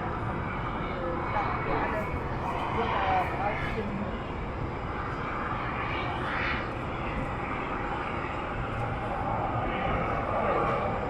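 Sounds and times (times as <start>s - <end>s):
jet airliner engines running: 0.0s - 11.0s.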